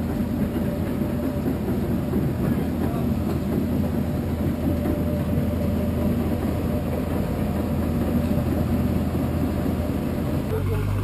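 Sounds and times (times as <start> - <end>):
heavy engine running steadily: 0.0 - 11.0.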